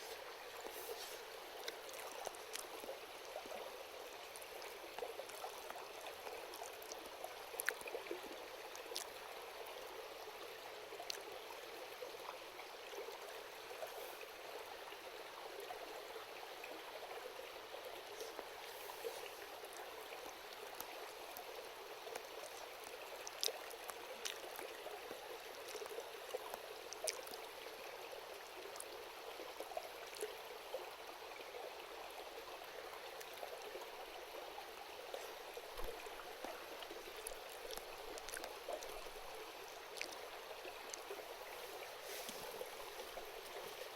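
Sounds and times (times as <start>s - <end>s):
river babbling: 0.0s - 43.9s.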